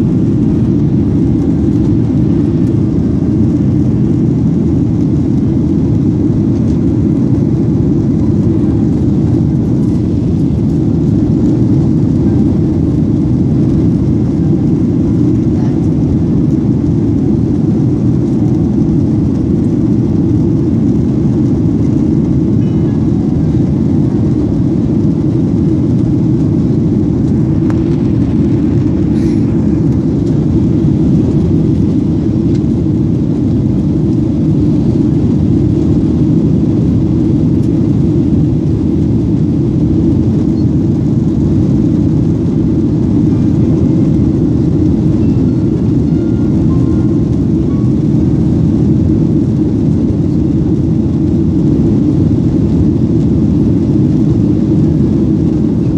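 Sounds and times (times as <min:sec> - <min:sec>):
jet cabin engine drone: 0:00.0 - 0:55.9.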